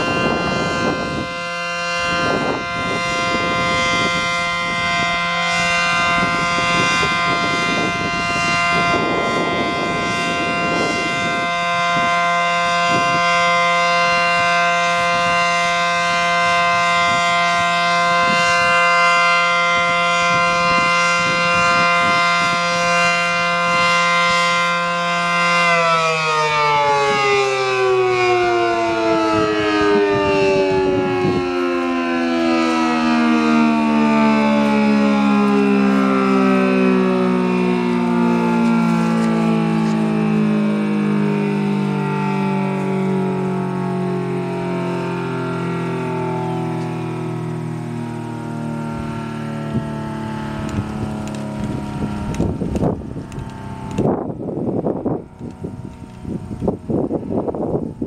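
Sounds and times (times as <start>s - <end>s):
warning siren two-tone chord: 0.0s - 58.0s.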